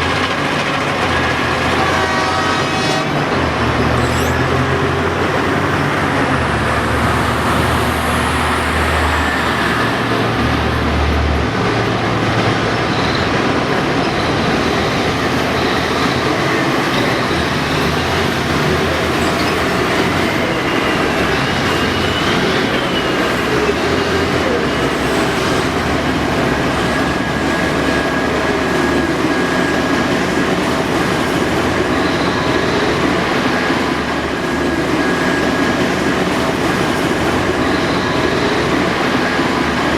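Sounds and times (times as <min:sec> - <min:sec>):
excavator diesel engine running: 0:00.0 - 0:39.9
hydraulic whines: 0:00.0 - 0:39.9.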